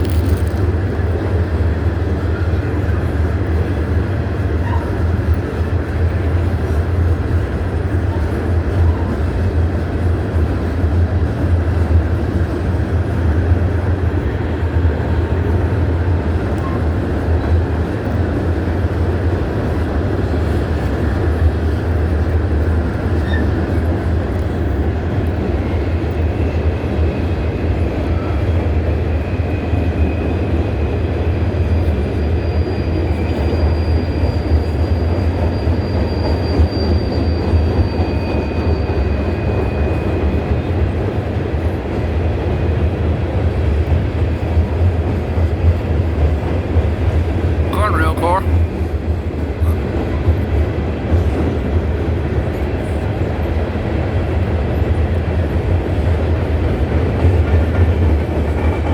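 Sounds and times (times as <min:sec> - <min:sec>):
train wheels rumbling on rails: 0:00.0 - 0:47.7, 0:48.3 - 0:58.9.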